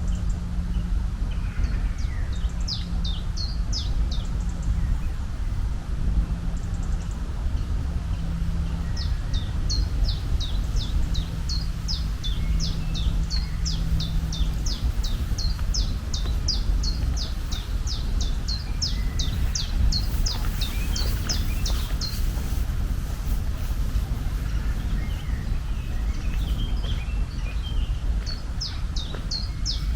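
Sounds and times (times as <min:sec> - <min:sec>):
steady low rumble: 0:00.0 - 0:29.9.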